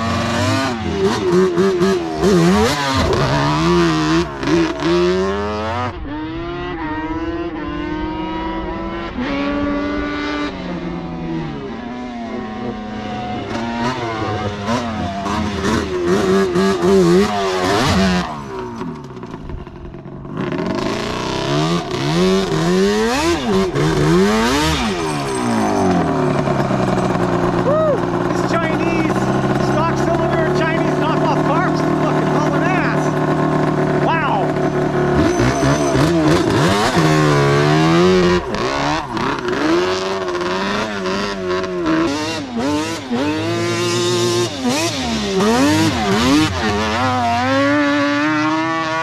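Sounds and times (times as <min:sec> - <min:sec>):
two-stroke quad engines revving: 0:00.0 - 0:49.0.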